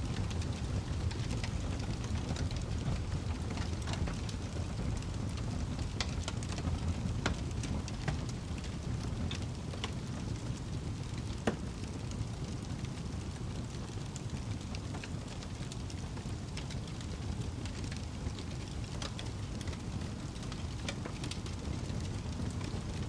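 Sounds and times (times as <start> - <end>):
fire burning rumble: 0.0 - 23.0
fire pops and snaps: 0.1 - 23.0.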